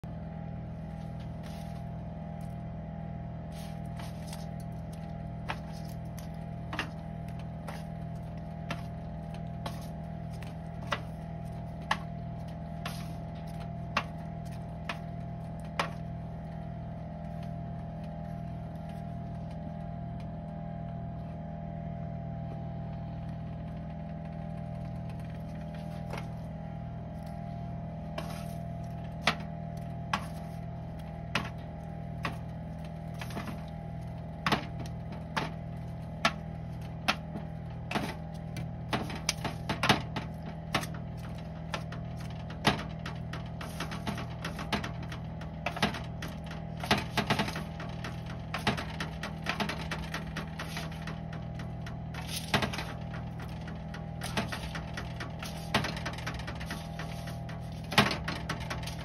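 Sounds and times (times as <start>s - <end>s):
machine hum with pulsing drone: 0.0s - 59.0s.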